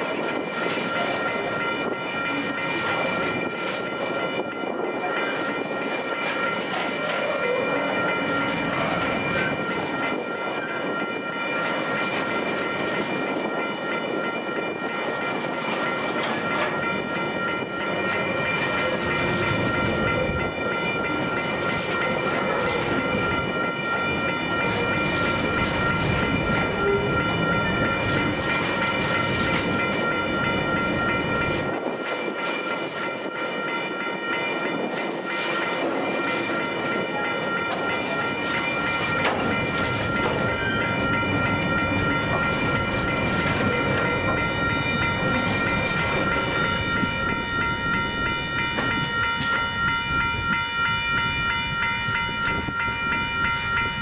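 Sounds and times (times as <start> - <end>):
electronic crossing warning bell: 0.0 - 54.0
freight train wheels clicking: 0.0 - 54.0.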